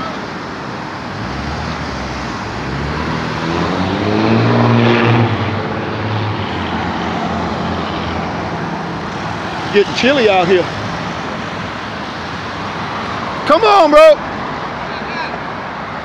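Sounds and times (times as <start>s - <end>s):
vehicle engine hum passing: 0.0s - 13.5s
road traffic: 0.0s - 16.0s.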